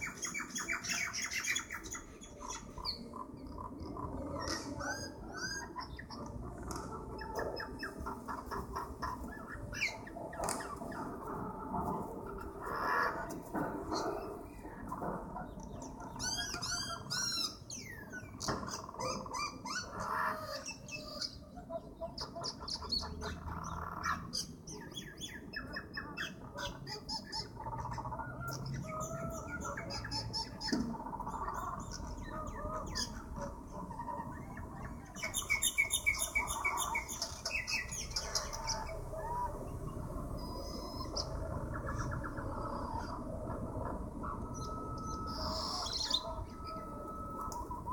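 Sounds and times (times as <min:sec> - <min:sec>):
birds squawking and chirping: 0:00.0 - 0:47.9.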